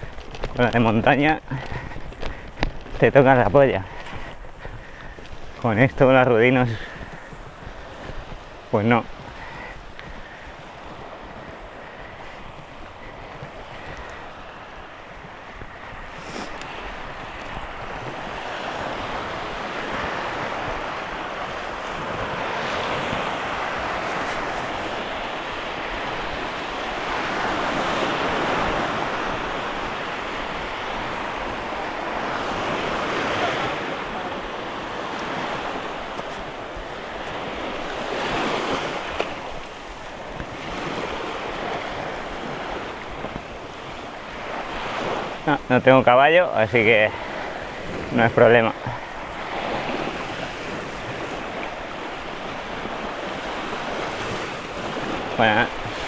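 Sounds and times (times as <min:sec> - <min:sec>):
sea waves breaking on beach: 0:00.0 - 0:56.0
wind blowing on microphone: 0:00.0 - 0:56.0.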